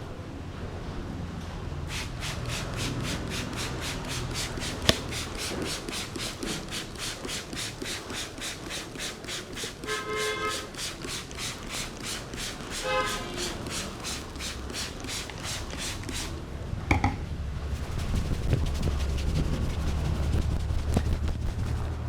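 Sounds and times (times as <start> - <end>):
hands rubbing scalp and hair: 1.9 - 16.4, 17.8 - 22.0.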